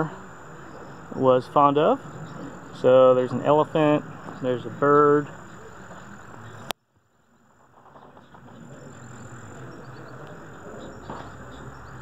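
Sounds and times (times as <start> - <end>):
crickets trilling: 0.0 - 12.0
faint outdoor noise: 0.0 - 12.0.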